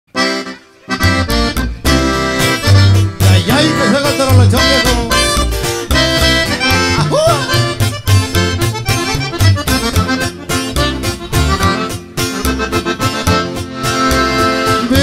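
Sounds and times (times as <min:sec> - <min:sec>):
button accordion melody: 0:00.1 - 0:15.0
strummed twelve-string guitar: 0:00.1 - 0:15.0
plucked upright bass: 0:00.2 - 0:15.0.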